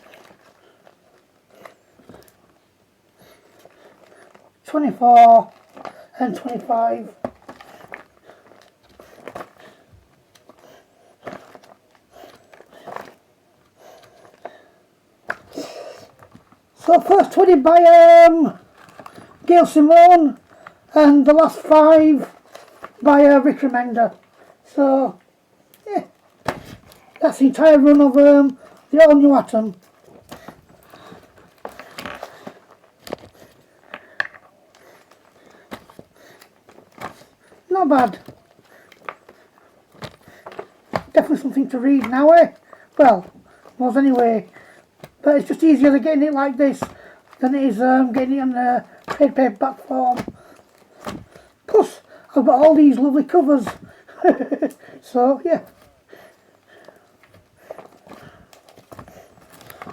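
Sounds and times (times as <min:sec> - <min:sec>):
comic book pages rustling: 0:00.0 - 0:59.9.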